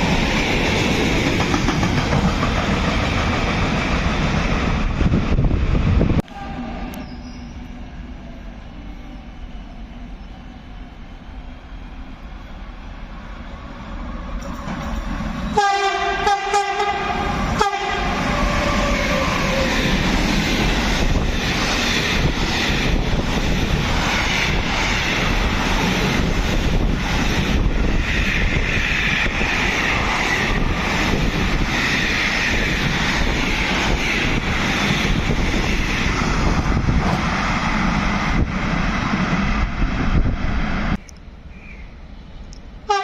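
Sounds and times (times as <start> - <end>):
train rushing past on rails: 0.0 - 43.0.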